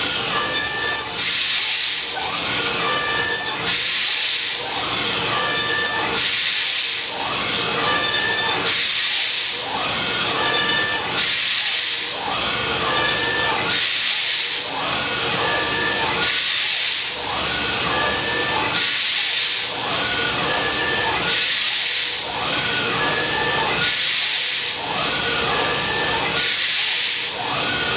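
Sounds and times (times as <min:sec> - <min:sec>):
cutter hissing through block: 0:00.0 - 0:27.9
router spindle whine: 0:00.0 - 0:27.9.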